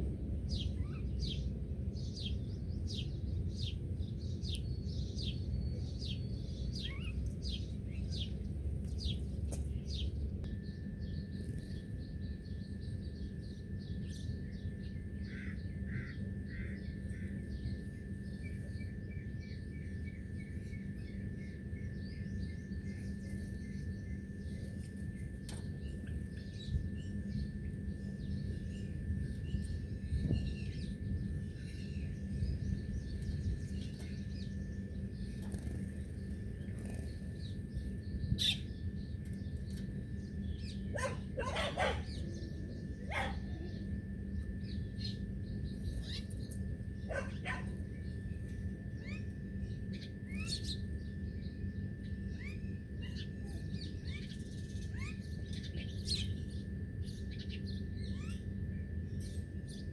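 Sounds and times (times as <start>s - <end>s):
steady low rumble: 0.0s - 51.0s
birds chirping: 2.1s - 59.0s.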